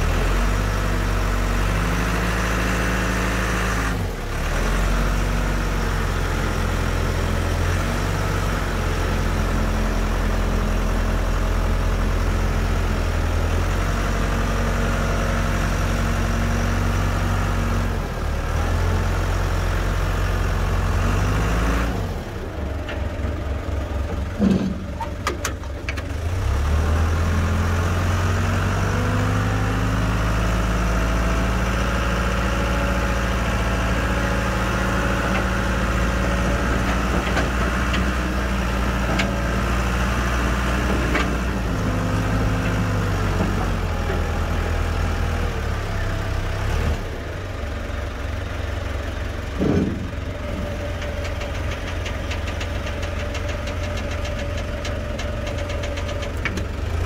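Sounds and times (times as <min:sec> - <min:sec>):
forklift engine running: 0:00.0 - 0:57.0.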